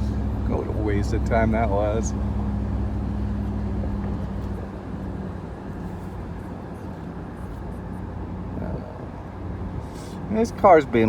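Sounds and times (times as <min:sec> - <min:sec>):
car exhaust drone: 0:00.0 - 0:10.2
road and wind noise: 0:00.0 - 0:11.0.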